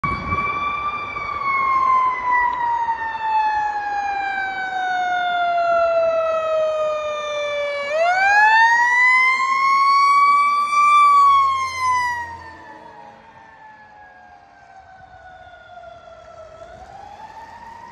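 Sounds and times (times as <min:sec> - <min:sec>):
fire truck siren wailing: 0:00.0 - 0:17.9.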